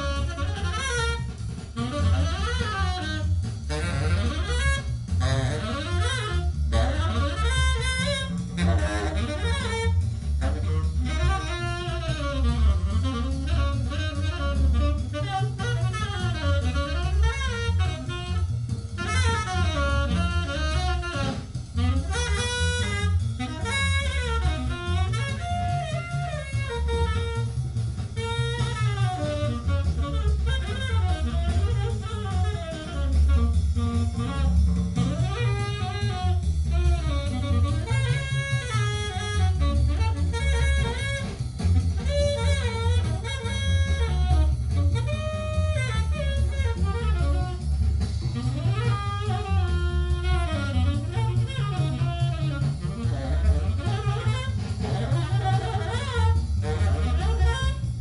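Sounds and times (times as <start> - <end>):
jazz over loudspeakers: 0.0 - 58.0.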